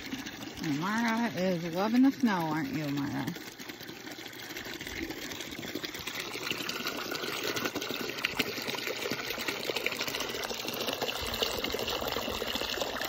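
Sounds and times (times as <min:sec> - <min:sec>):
water running into plastic bucket: 0:00.0 - 0:13.0.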